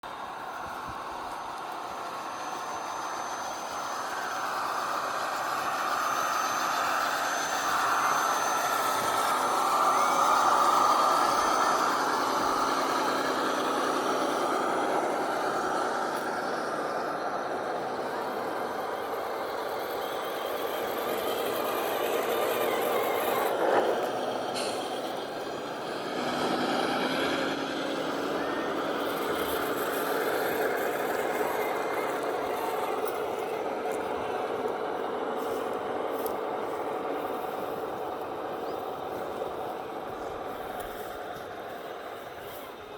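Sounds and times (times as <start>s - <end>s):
electric motors whining: 0.1s - 42.9s.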